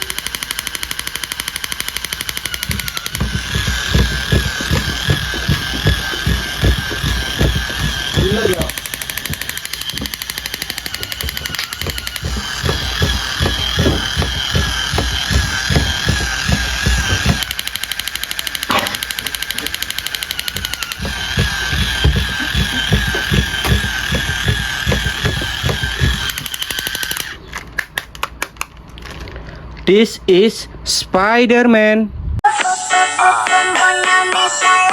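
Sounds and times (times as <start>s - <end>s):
toy machine-gun rattle: 0.0s - 28.3s
scattered clicks: 0.0s - 28.8s.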